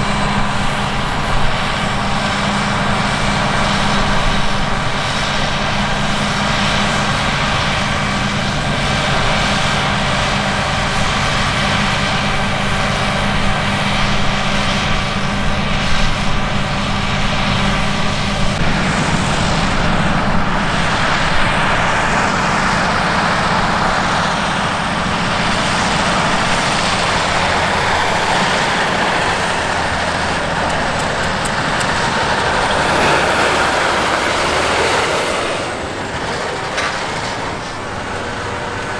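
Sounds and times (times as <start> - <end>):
diesel farm machinery running: 0.0 - 38.9
rushing mechanical noise: 0.0 - 38.9.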